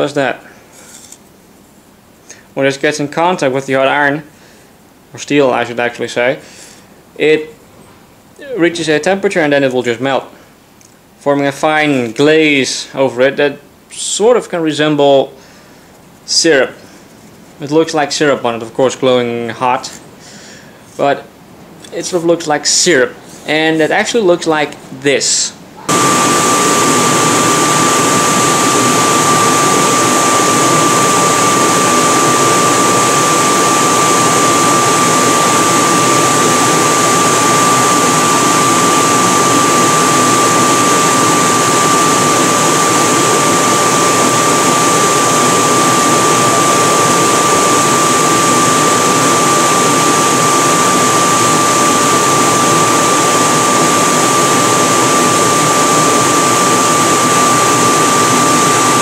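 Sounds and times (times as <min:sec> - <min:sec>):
forge blower rushing with whine: 0:11.2 - 0:59.0.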